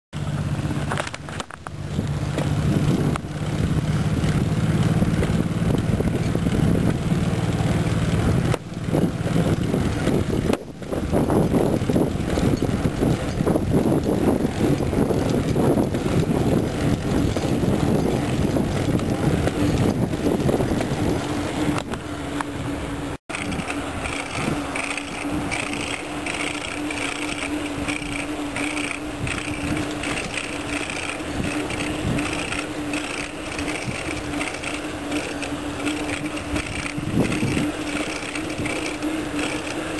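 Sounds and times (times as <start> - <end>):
bicycle rattle: 0.2 - 22.4, 23.3 - 39.9
knocking from bicycle drivetrain: 2.3 - 21.9, 23.3 - 39.9.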